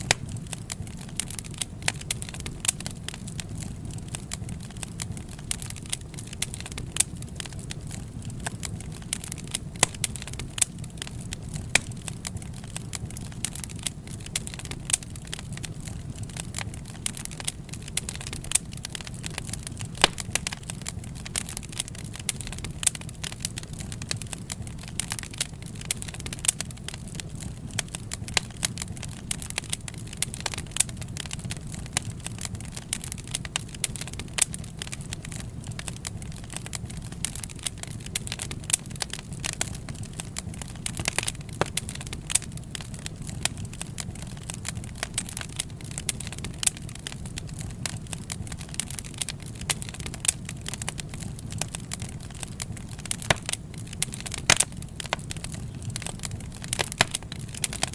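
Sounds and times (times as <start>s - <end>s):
low rumble of burning: 0.0s - 57.9s
wood fire pops and snaps: 0.0s - 57.9s.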